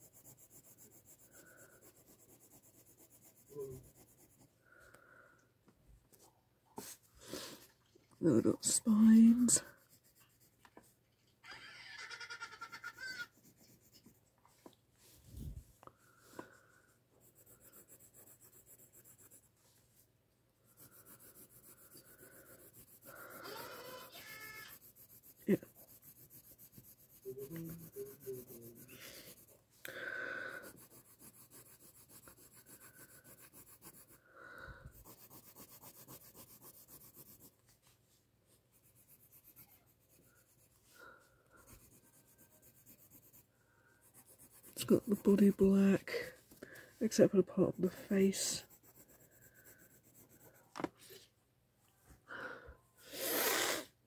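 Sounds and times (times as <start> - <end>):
pencil scratching on paper: 0.0 - 4.6, 6.8 - 11.0, 12.0 - 15.2, 16.0 - 19.8, 20.6 - 29.7, 30.4 - 51.3.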